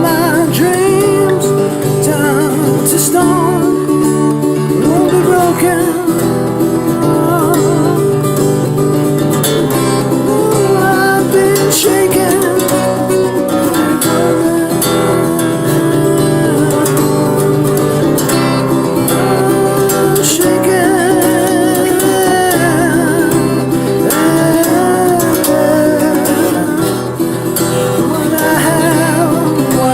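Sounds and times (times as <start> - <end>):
person singing: 0.0 - 29.9
strummed acoustic guitar: 0.0 - 29.9.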